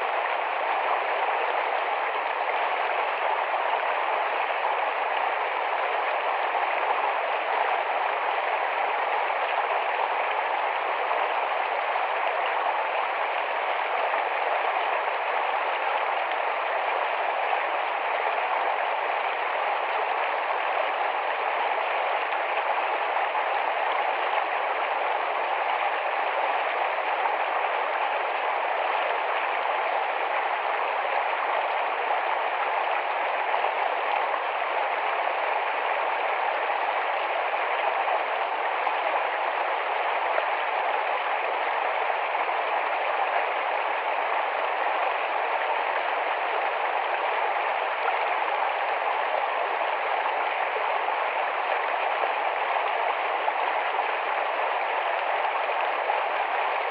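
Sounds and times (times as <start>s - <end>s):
forest stream flowing: 0.0s - 56.9s.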